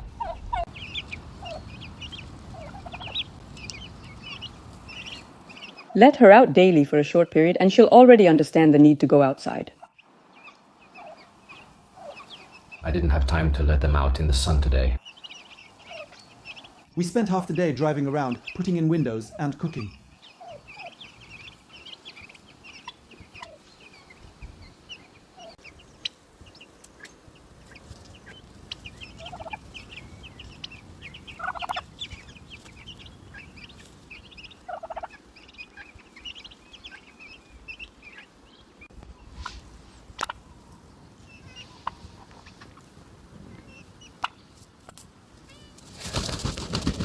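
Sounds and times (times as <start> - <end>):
turkey poults peeping: 0.0 - 47.0.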